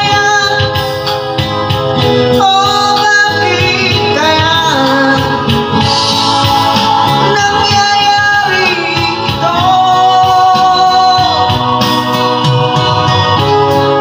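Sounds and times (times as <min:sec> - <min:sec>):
backing music: 0:00.0 - 0:14.0
man singing rock song: 0:00.0 - 0:14.0.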